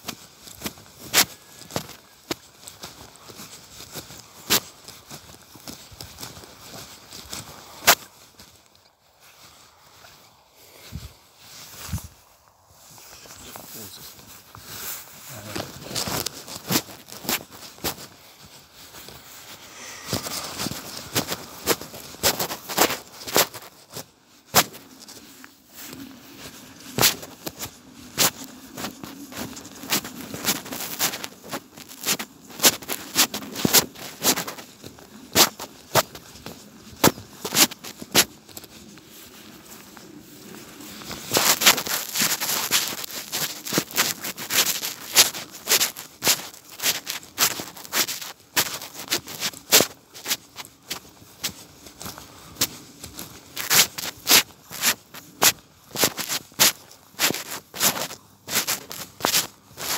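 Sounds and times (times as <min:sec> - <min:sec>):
barefoot footsteps through wet grass: 0:00.0 - 0:59.9
clicks and crackles on microphone: 0:10.8 - 0:59.9.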